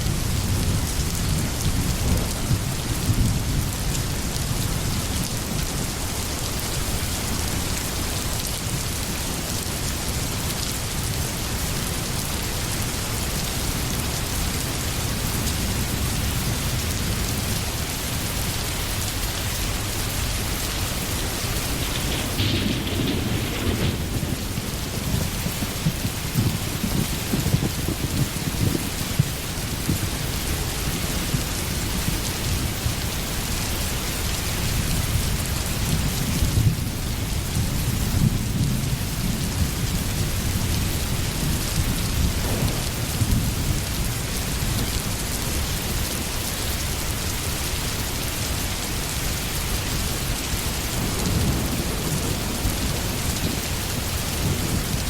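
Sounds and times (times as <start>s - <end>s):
thunder rumbling low: 0.0s - 46.6s, 50.4s - 55.0s
heavy rain: 0.0s - 55.0s.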